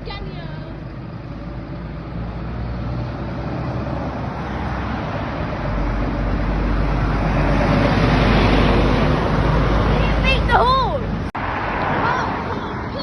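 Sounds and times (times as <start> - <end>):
passing vehicle engine drone: 0.0 - 13.0.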